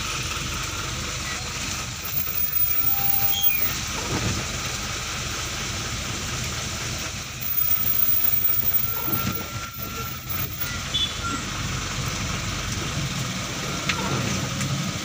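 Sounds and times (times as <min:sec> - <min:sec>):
large vehicle engine rumble: 0:00.0 - 0:15.0
rain hiss on wet road: 0:00.0 - 0:15.0.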